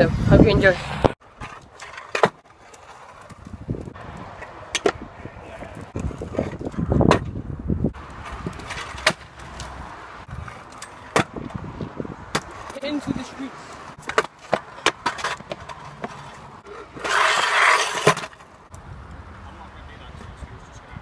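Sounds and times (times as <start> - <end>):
scooter wheels rolling on concrete: 0.0 - 21.0.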